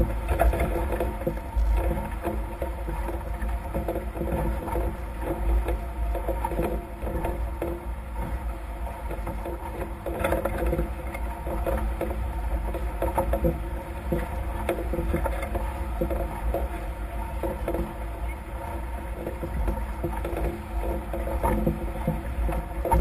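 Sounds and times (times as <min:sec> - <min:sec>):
faint steady hum: 0:00.0 - 0:23.0
water rushing along hulls: 0:00.0 - 0:23.0.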